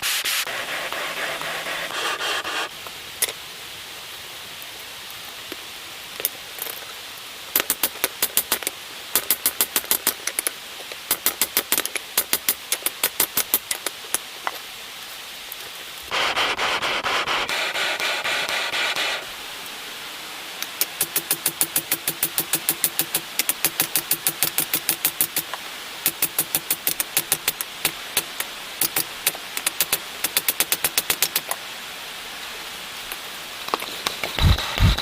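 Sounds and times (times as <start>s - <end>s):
steady rushing hiss: 0.0s - 35.0s.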